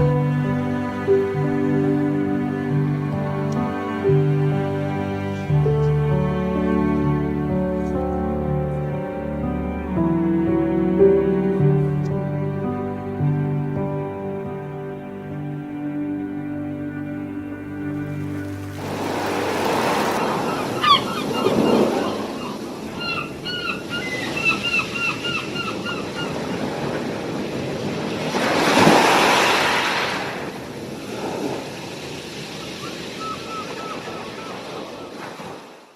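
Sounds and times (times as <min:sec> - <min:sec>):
surf washing ashore: 0:00.0 - 0:15.1, 0:17.0 - 0:35.9.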